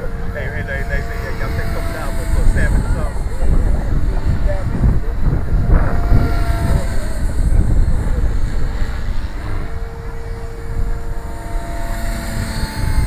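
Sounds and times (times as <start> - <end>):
rc helicopter motor whine: 0.0 - 13.0
wind buffeting microphone: 0.0 - 13.0.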